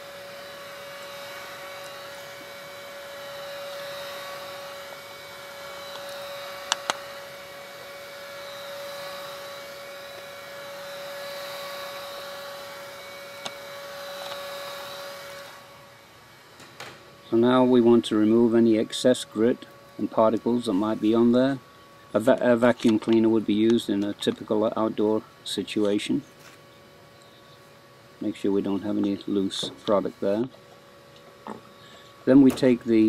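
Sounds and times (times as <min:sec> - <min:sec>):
curing lamp hum and whir: 0:00.0 - 0:33.0.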